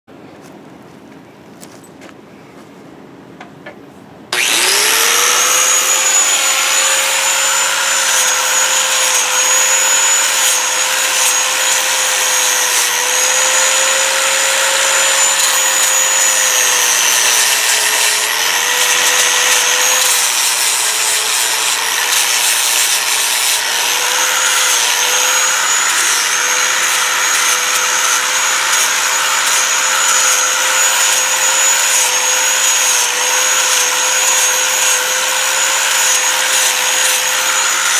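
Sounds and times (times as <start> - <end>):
angle grinder whining: 4.3 - 37.9
sanding disc rasping on wood: 4.4 - 37.9.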